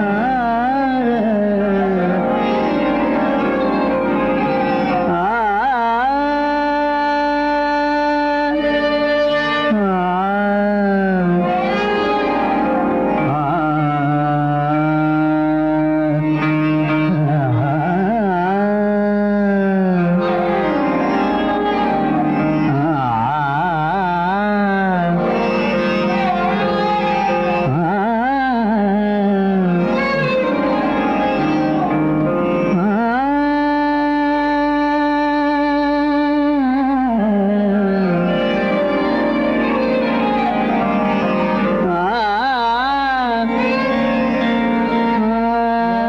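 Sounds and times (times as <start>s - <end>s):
man singing ornamented phrases: 0.0s - 2.6s, 4.8s - 11.8s, 13.2s - 26.8s, 27.5s - 31.9s, 32.6s - 40.5s, 41.6s - 46.0s.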